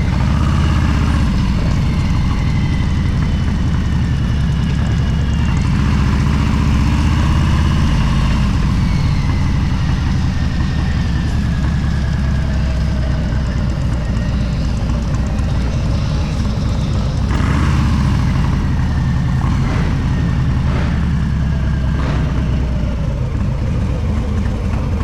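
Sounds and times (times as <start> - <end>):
motorcycle engine rumbling: 0.0 - 25.0
road noise: 0.0 - 25.0.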